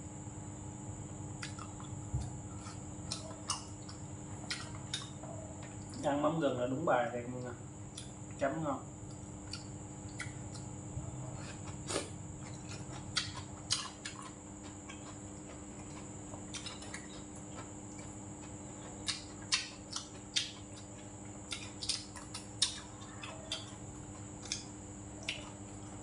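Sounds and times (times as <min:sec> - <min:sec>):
chewing and mouth noise: 0:01.4 - 0:06.1, 0:09.0 - 0:26.0.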